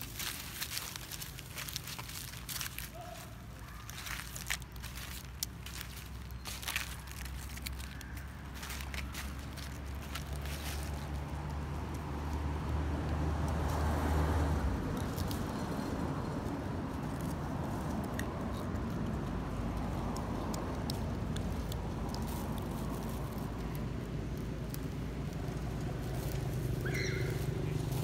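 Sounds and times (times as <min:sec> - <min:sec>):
vehicle low hum: 0:00.0 - 0:28.0.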